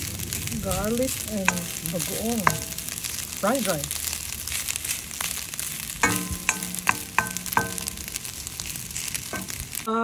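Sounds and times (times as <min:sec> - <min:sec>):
rice sizzling in a wok: 0:00.0 - 0:10.0
spatula scraping a wok: 0:01.4 - 0:09.9.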